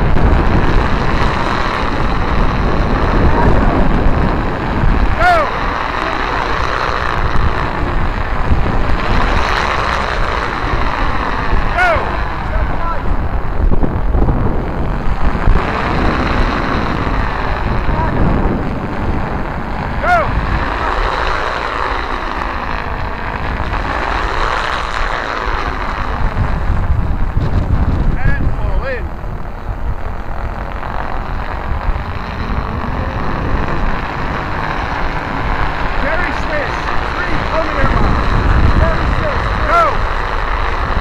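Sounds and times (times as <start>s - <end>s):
kites roaring through air: 0.0s - 41.0s
wind buffeting microphone: 0.0s - 41.0s.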